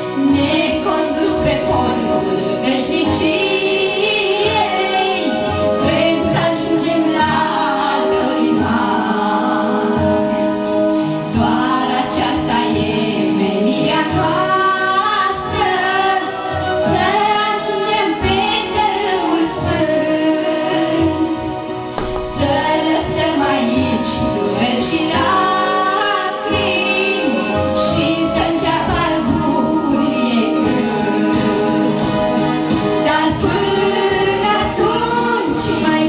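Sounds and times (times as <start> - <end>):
instrumental accompaniment: 0.0 - 36.0.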